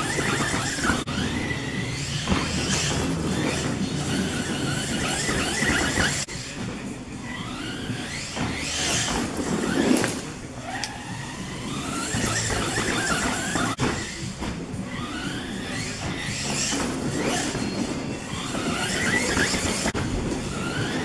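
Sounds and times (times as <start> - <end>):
rc truck electric motor whining: 0.0 - 21.0.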